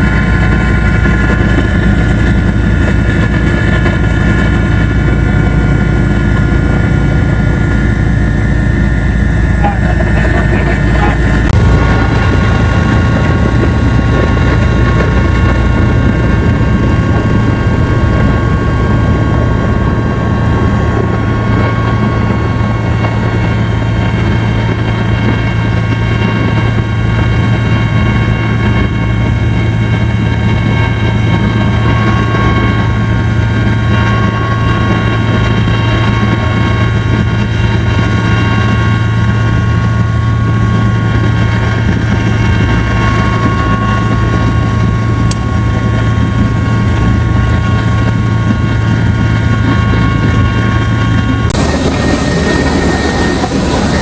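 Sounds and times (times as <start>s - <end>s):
helicopter cabin drone: 0.0s - 54.0s
whining tones: 0.0s - 54.0s.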